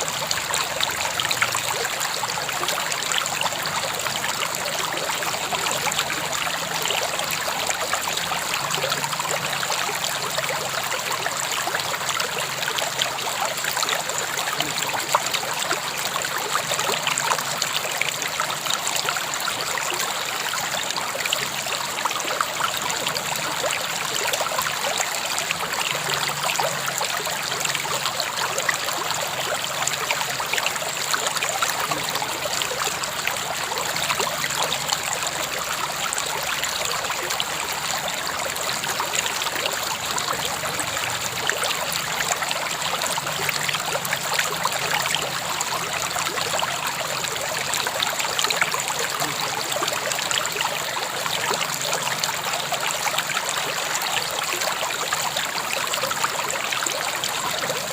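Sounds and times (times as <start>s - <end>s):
river water babbling over stones: 0.0s - 57.9s.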